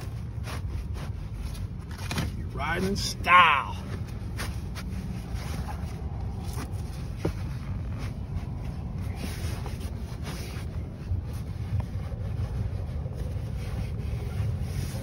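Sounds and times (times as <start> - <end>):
fabric rustling and scraping: 0.0 - 15.0
steady low rumble: 0.0 - 15.0.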